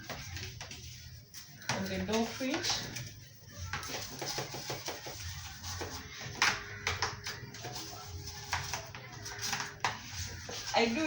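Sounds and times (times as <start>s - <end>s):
toothbrush scrubbing: 0.0s - 11.0s.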